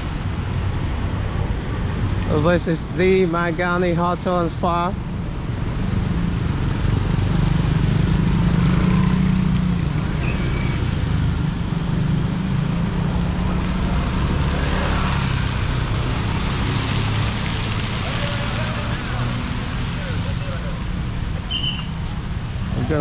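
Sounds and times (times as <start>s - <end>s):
traffic engines and road noise: 0.0s - 23.0s
vehicles passing: 0.0s - 23.0s.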